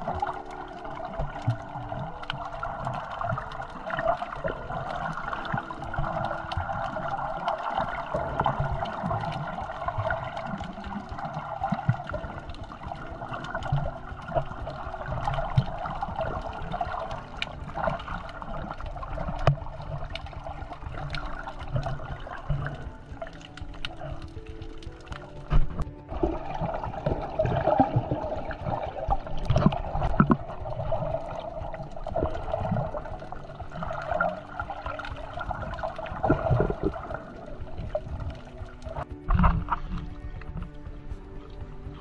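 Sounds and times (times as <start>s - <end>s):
muffled underwater rush: 0.0s - 42.0s
small underwater clicks: 0.0s - 42.0s.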